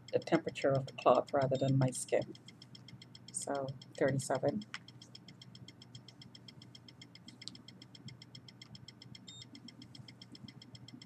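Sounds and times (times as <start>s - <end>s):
fast electronic ticking: 0.0s - 11.0s
low steady hum: 0.0s - 11.0s.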